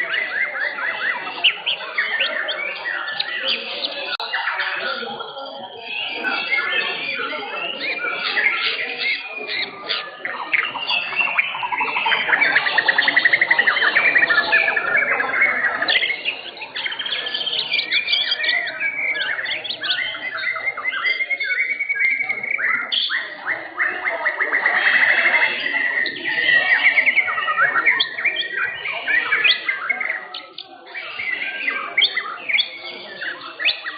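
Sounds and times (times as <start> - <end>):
fast rattling bird trills: 0.0 - 33.9
songbirds singing: 0.0 - 33.9.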